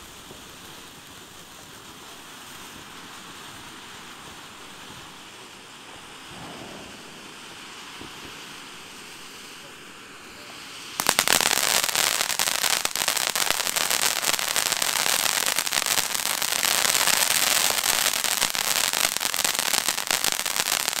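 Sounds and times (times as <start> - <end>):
firework crackling: 0.0 - 21.0
firework fountain hissing: 0.0 - 21.0.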